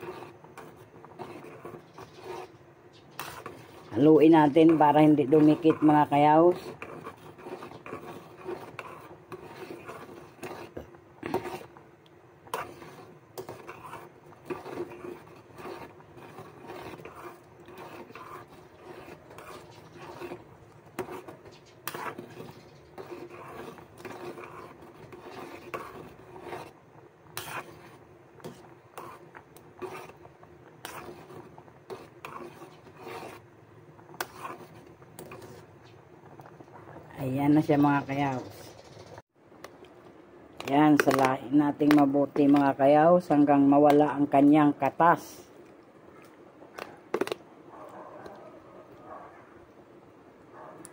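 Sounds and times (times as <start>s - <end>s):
spoon scraping metal pot: 0.0s - 39.2s, 40.6s - 45.4s.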